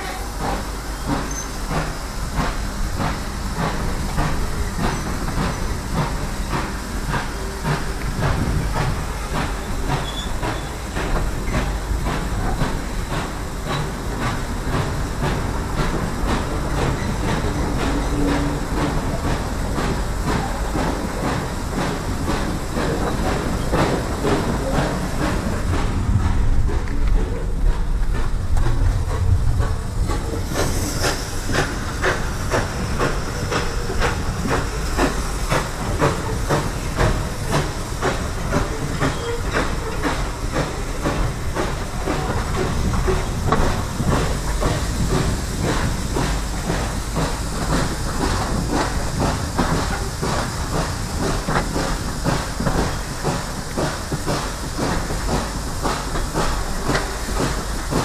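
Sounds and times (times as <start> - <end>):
steam hissing: 0.0 - 58.0
train rumble: 0.0 - 58.0
wheels clicking on track: 0.0 - 58.0.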